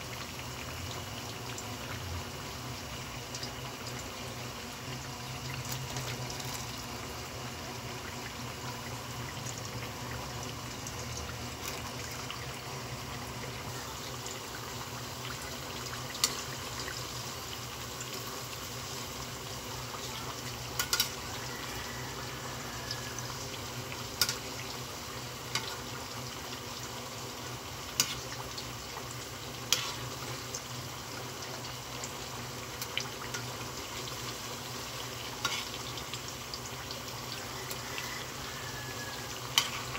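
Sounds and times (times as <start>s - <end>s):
food frying in hot oil: 0.0s - 39.9s.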